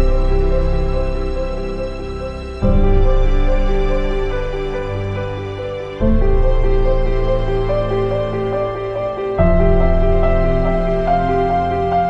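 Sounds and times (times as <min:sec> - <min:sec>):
slow soft background music: 0:00.0 - 0:12.0.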